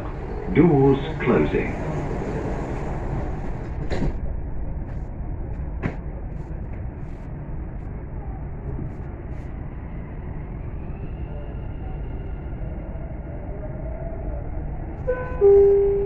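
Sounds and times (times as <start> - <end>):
train car rumble and hum: 0.0 - 16.0.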